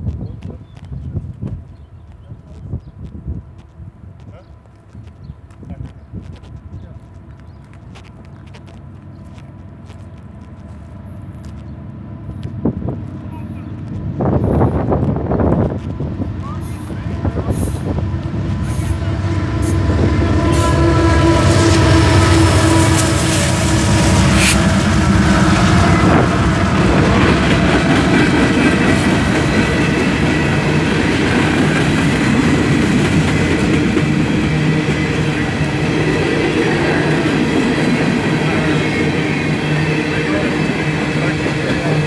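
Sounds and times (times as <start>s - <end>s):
train wheels rumbling and clacking: 0.0s - 42.0s
diesel locomotive passing: 1.1s - 42.0s.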